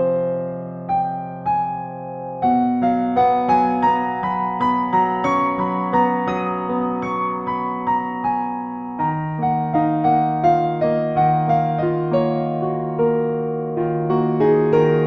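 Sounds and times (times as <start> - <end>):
gentle electric piano music: 0.0 - 15.0.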